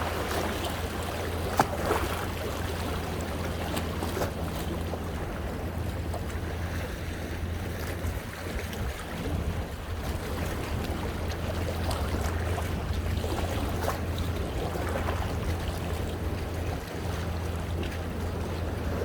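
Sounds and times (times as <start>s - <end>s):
waves splashing against rocks: 0.0s - 19.0s
wind rumble on microphone: 0.0s - 19.0s.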